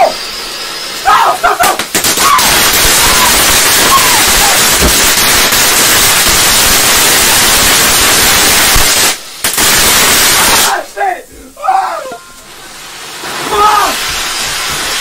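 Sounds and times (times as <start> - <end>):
fountain firework hissing: 0.0 - 10.9, 12.2 - 15.0
sharp crackles: 1.0 - 10.8, 12.3 - 15.0.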